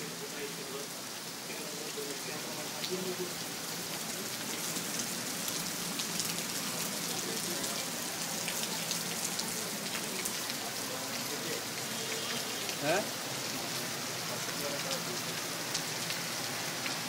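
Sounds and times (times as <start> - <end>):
rain falling on flooded street: 0.0 - 17.0.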